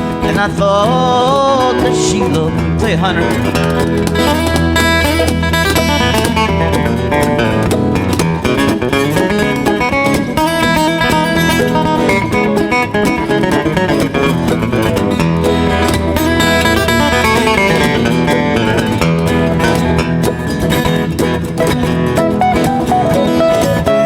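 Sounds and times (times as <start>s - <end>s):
cajon beat: 0.0s - 24.0s
lead acoustic guitar picking: 0.0s - 24.0s
strummed rhythm guitars: 0.0s - 24.0s.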